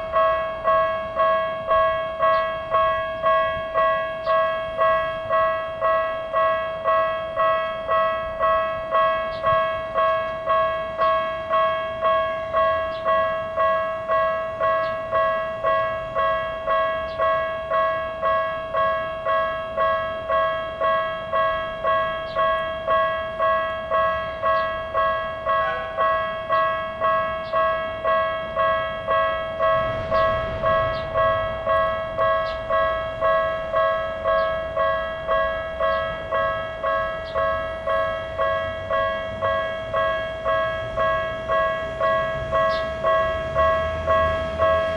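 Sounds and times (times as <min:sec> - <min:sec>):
electronic level-crossing bell: 0:00.0 - 0:44.9.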